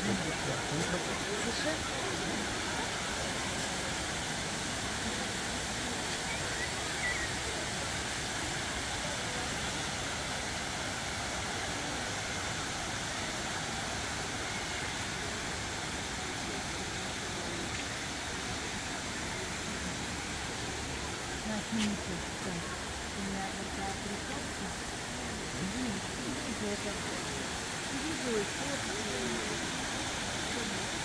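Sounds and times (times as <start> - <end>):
fountain water splashing: 0.0 - 31.0.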